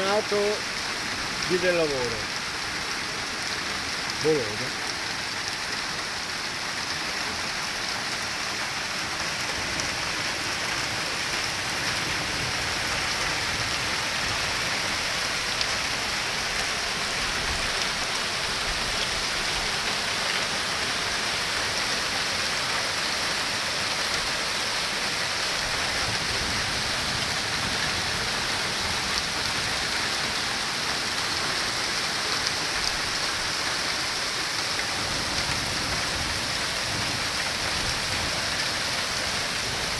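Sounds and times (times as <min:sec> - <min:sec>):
heavy rain and hail pelting: 0:00.0 - 0:39.9.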